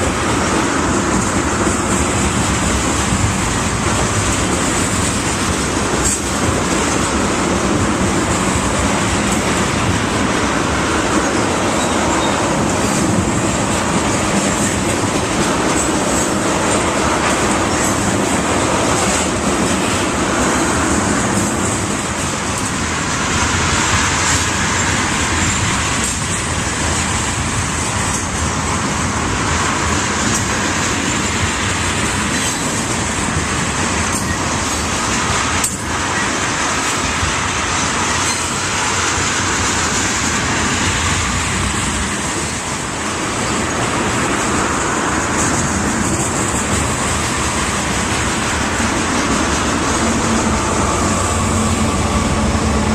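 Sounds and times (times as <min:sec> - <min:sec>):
train rumbling on tracks: 0:00.0 - 0:52.9
wheels clicking over rail joints: 0:00.0 - 0:52.9.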